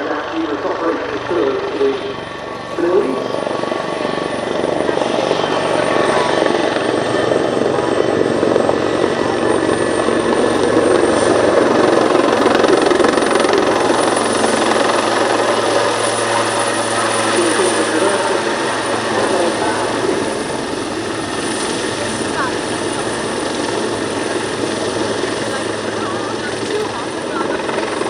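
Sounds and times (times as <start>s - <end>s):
helicopter rotor and turbine: 0.0s - 28.0s.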